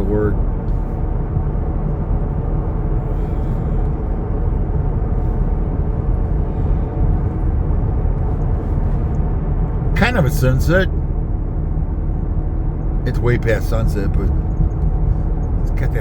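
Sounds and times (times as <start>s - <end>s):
vehicle cabin road rumble: 0.0s - 16.0s.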